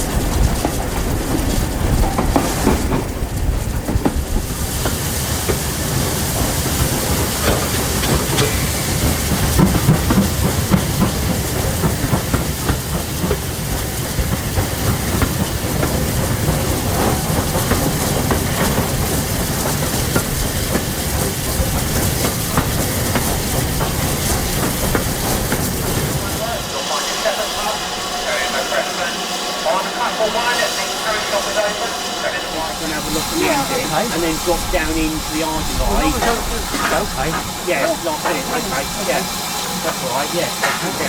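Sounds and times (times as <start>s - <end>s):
train wheels clattering on rails: 0.0s - 41.0s.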